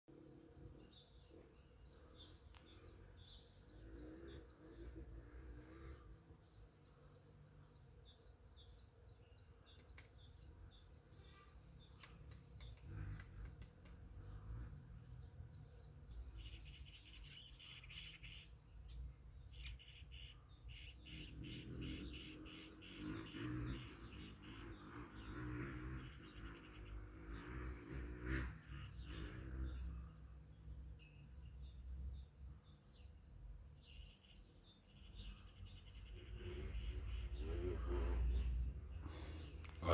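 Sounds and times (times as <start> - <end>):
small birds chirping: 0.6 - 39.9.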